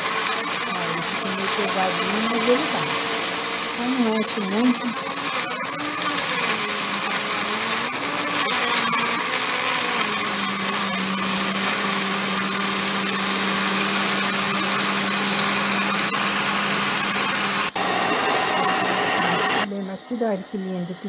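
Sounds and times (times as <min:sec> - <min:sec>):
blender motor running: 0:00.0 - 0:21.0.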